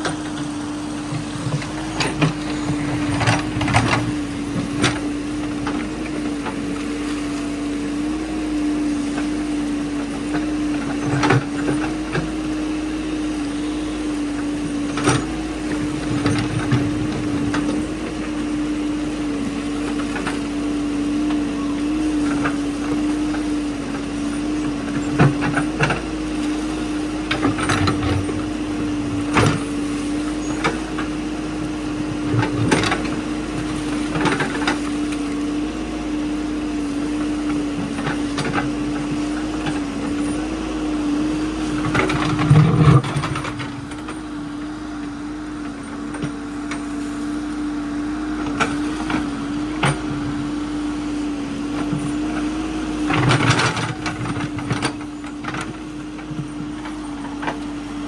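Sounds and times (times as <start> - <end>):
bucket and arm clanking: 0.0 - 58.0
diesel engine running: 0.0 - 58.0.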